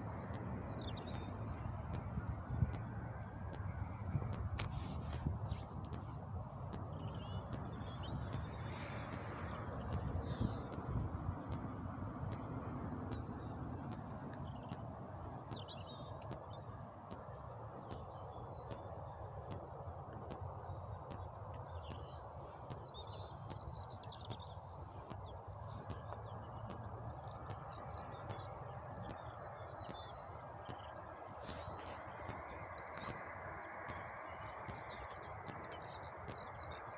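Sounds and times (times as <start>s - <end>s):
low background rumble: 0.0s - 36.9s
small birds chirping: 0.0s - 36.9s.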